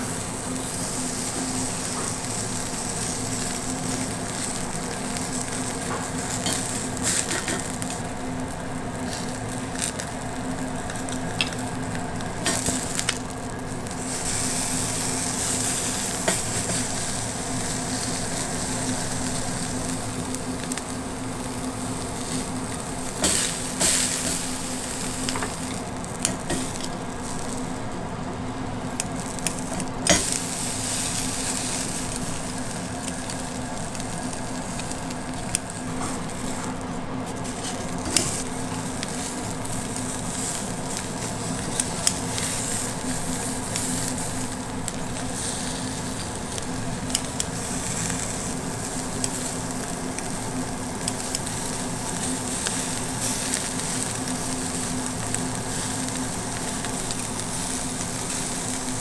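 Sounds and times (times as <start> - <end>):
beef sizzling on griddle: 0.0 - 59.0.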